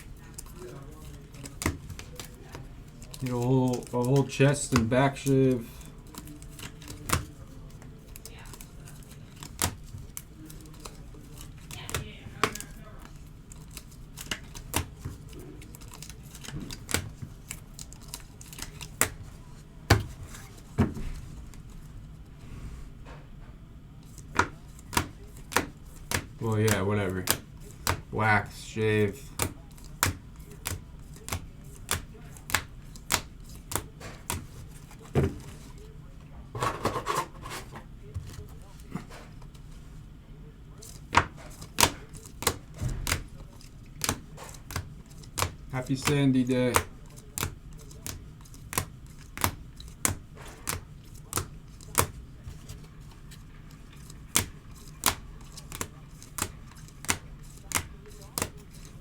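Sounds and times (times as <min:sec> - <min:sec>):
cards being flipped: 0:00.0 - 0:21.8, 0:24.0 - 0:28.1, 0:28.8 - 0:35.9, 0:40.8 - 0:59.0.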